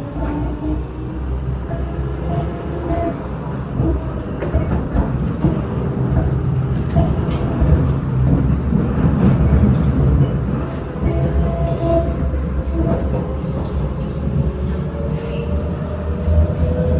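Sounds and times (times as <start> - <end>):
train wheels rumbling on track: 0.0 - 16.9.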